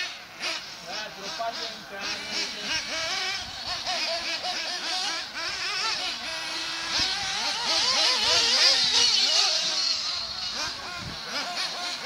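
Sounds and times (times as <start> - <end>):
model car engines whining: 0.0 - 12.0.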